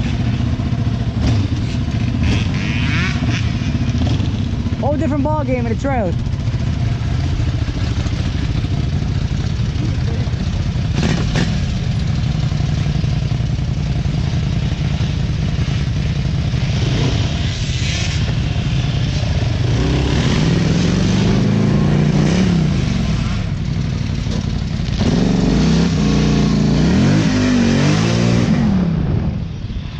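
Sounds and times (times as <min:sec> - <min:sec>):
off-road vehicle engine running: 0:00.0 - 0:29.9.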